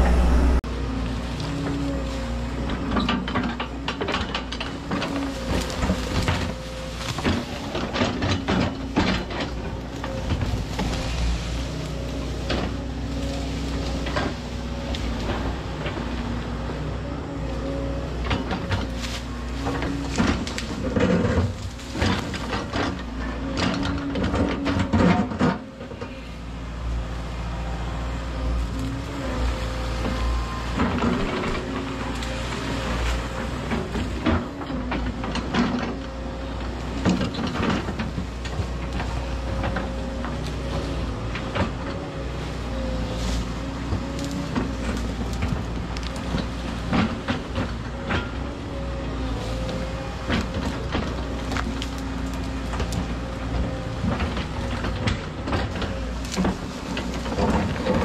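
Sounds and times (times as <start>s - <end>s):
constant whine: 0.0s - 58.0s
excavator diesel engine running: 0.0s - 58.0s
machine clanking and clattering: 1.2s - 58.0s.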